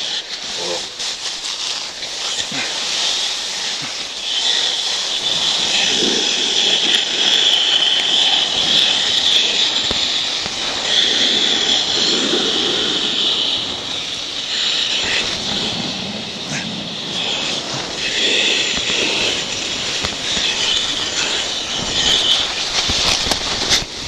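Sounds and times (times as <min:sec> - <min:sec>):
person sliding on snow: 0:00.0 - 0:24.0.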